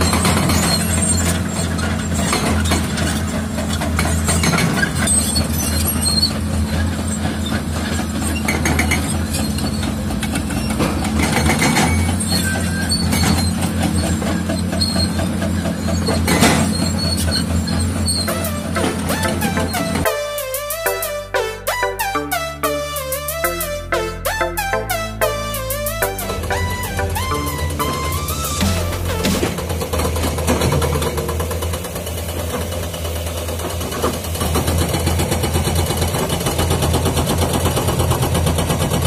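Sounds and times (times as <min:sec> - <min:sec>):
steel tracks clanking: 0:00.0 - 0:21.1, 0:25.3 - 0:39.0
bulldozer engine hum: 0:00.0 - 0:39.0.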